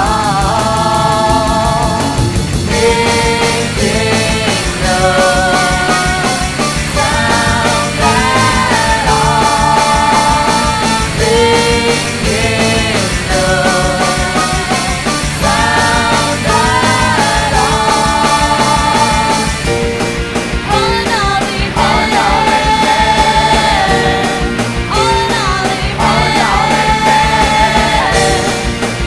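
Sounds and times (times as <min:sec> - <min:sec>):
drums keeping a steady beat: 0:00.0 - 0:29.0
bending lead guitar melody: 0:01.2 - 0:29.0.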